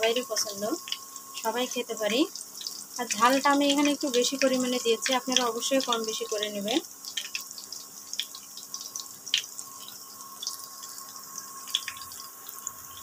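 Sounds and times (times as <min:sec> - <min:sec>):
faint steady tone: 0:00.0 - 0:13.0
oil sizzling with crackles: 0:00.0 - 0:13.0.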